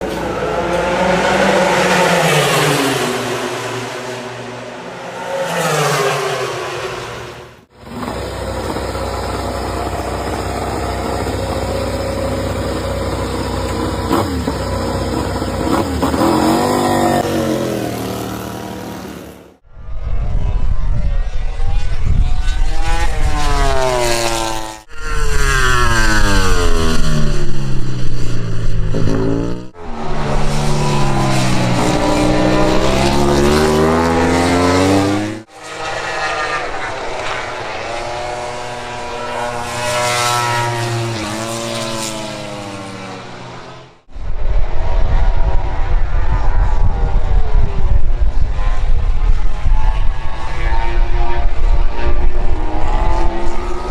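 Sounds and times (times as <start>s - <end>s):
racing motorcycles at high revs: 0.0s - 19.6s, 21.0s - 44.1s, 45.0s - 53.9s.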